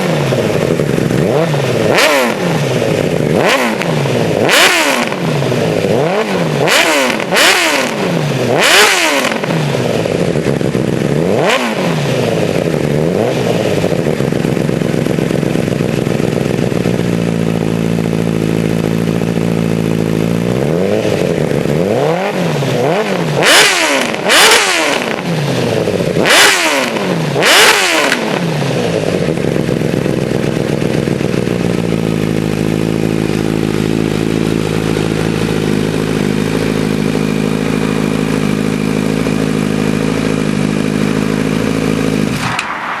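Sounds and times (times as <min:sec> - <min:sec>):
motorcycle engine idling: 0:00.0 - 0:42.7
motorcycle engine revving: 0:00.0 - 0:43.0.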